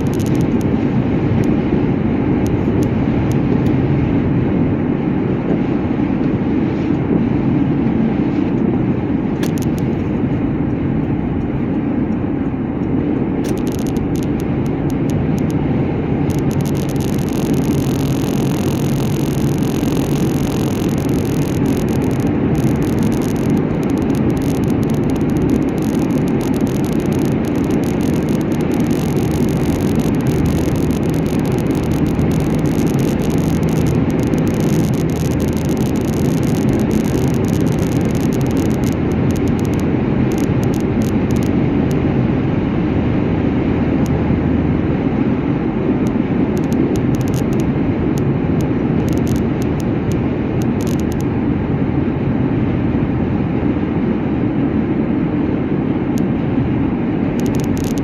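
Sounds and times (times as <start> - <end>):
car engine drone: 0.0 - 58.0
tyre road noise: 0.0 - 58.0.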